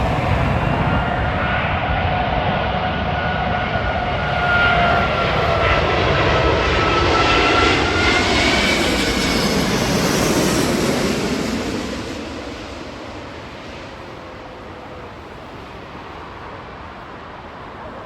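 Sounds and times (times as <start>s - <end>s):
jet engines passing: 0.0s - 17.8s.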